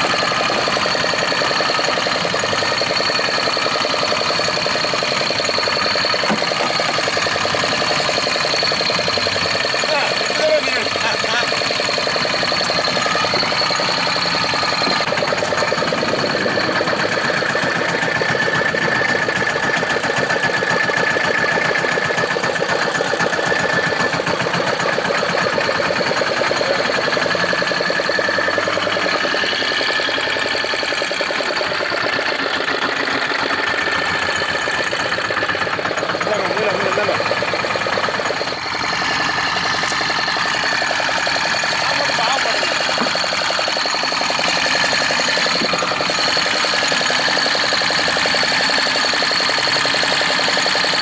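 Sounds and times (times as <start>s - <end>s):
boat engine chugging: 0.0s - 51.0s.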